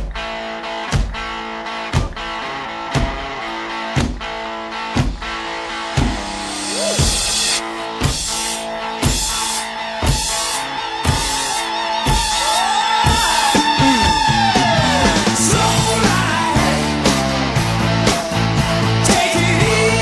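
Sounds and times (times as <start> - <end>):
rock music: 0.0 - 20.0.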